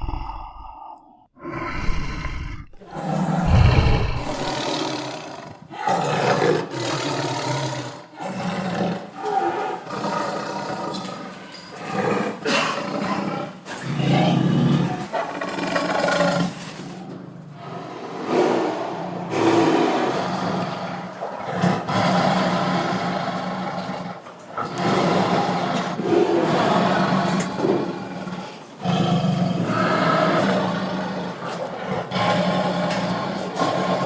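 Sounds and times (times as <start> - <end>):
tiger roaring: 0.0 - 34.0.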